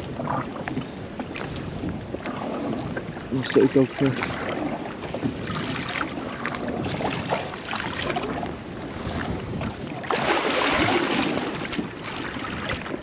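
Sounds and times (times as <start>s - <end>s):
water lapping around boat: 0.0s - 13.0s
wind on microphone: 0.0s - 13.0s.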